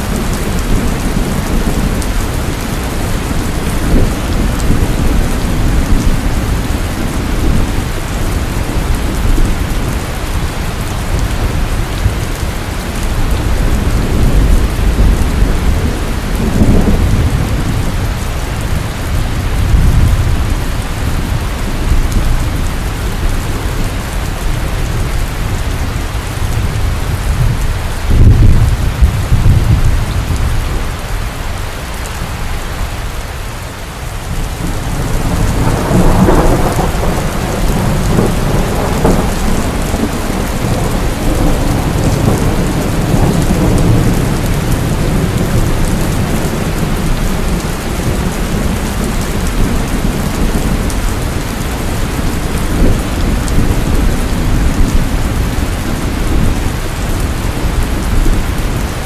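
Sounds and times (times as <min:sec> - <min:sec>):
thunder rumbling: 0:00.0 - 0:33.2, 0:34.0 - 0:59.0
heavy rain falling: 0:00.0 - 0:59.0.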